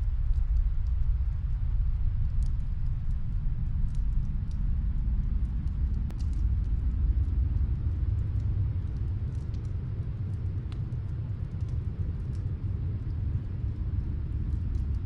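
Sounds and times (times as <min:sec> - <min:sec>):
fire crackling faintly: 0:00.0 - 0:15.0.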